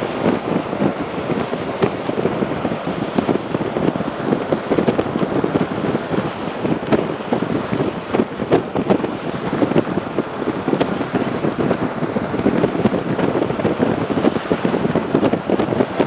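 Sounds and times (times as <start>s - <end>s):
steady rain hiss: 0.0s - 15.6s.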